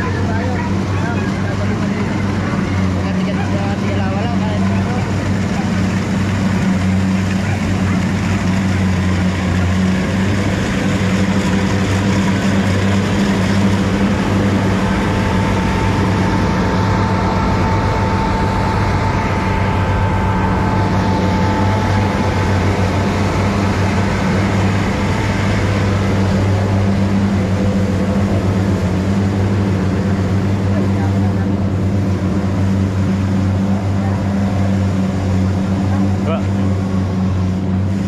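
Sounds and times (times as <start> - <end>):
harvester engine running: 0.0 - 38.0.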